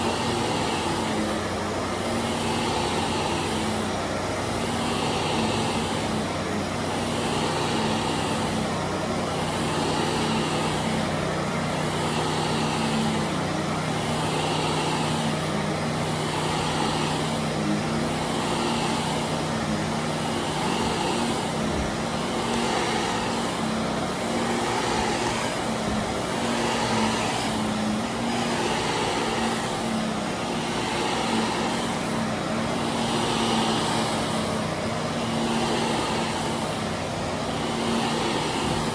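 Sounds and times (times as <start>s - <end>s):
carpet cleaning machine humming: 0.0s - 38.9s.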